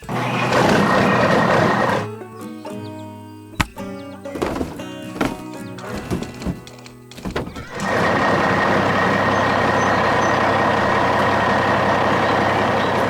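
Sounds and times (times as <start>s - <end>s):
heavy truck engine rumbling: 0.0s - 2.2s, 3.6s - 13.0s.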